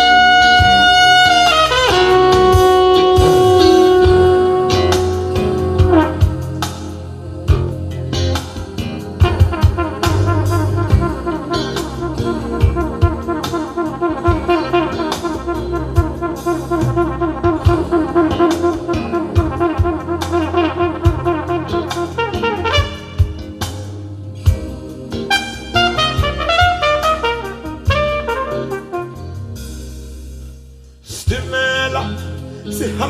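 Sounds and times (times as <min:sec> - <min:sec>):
brass rapid repeated notes: 0:00.0 - 0:07.7, 0:09.0 - 0:23.8, 0:24.4 - 0:30.0
jazz band over loudspeakers: 0:00.0 - 0:30.3, 0:31.0 - 0:33.0.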